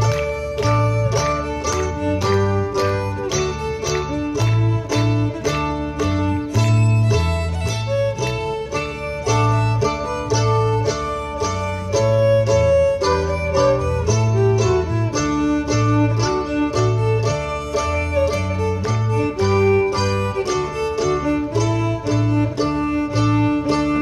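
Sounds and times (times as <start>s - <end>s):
alternating bass: 0.0s - 24.0s
fiddle melody: 0.0s - 24.0s.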